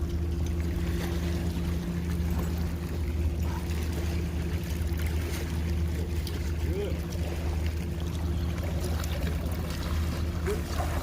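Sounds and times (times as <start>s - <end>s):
low engine hum: 0.0s - 11.0s
water splashing against rocks: 0.0s - 11.0s.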